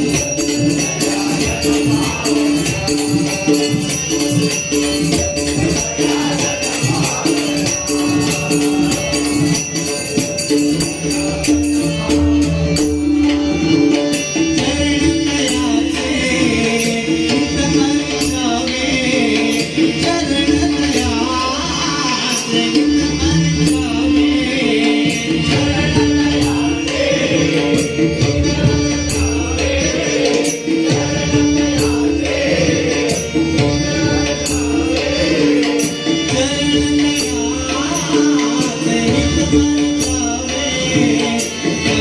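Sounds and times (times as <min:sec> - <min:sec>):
devotional singing: 0:00.0 - 0:04.5, 0:05.1 - 0:09.6, 0:14.6 - 0:42.0
rhythmic percussion strokes: 0:00.0 - 0:42.0.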